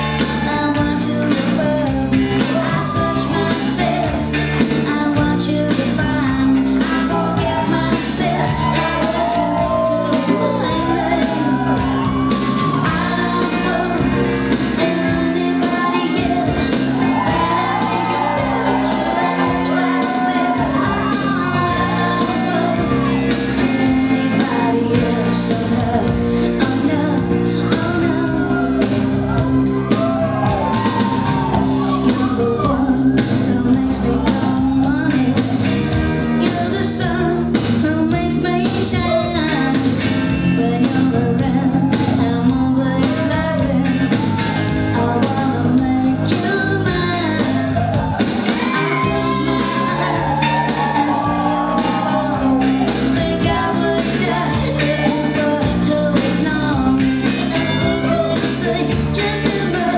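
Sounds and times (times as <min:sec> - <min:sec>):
song with singing over a beat: 0:00.0 - 0:59.9.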